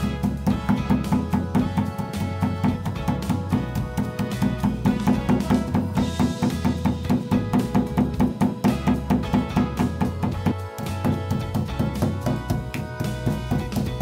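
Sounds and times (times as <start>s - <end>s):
instrumental music with percussive beat: 0.0s - 14.0s.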